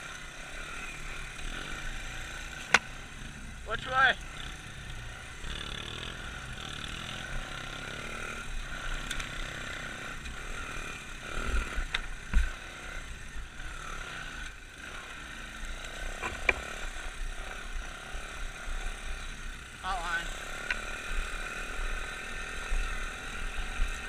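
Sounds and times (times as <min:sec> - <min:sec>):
pit bike engine running: 0:00.0 - 0:24.0.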